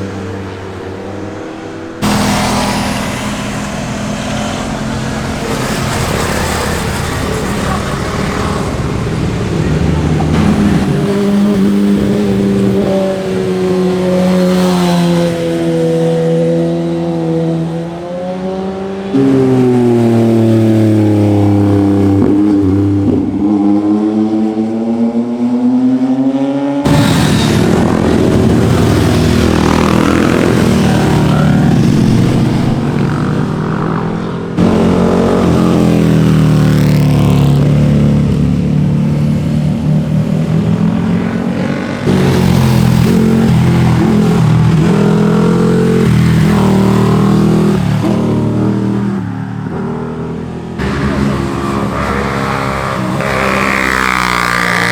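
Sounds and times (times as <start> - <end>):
motorcycle engines revving past: 0.0 - 54.9.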